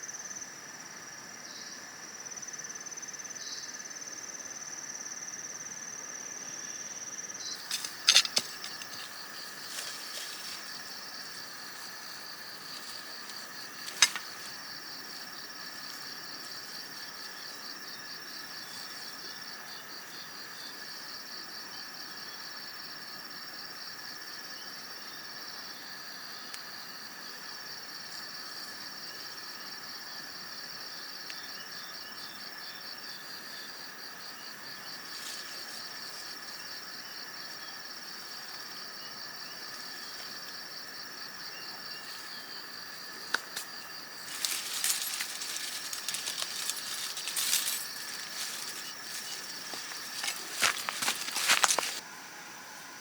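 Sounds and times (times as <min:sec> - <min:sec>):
insects buzzing: 0:00.0 - 0:53.0
pulsing insect trill: 0:02.3 - 0:52.0.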